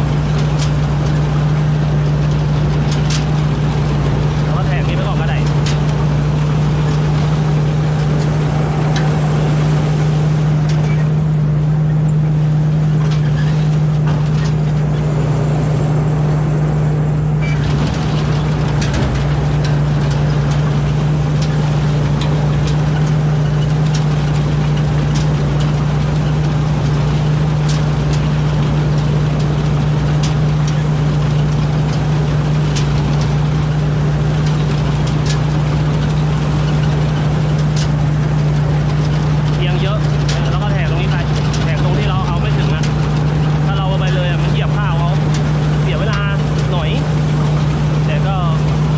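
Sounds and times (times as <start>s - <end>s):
harvester engine droning: 0.0s - 48.9s.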